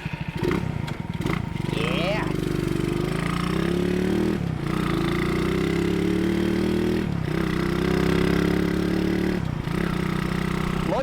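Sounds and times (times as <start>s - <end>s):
motorcycle accelerating: 0.0s - 11.0s.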